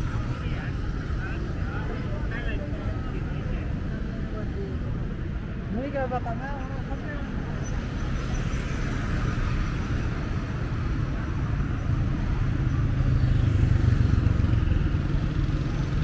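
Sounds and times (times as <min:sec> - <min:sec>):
passing cars and motorbikes: 0:00.0 - 0:16.0.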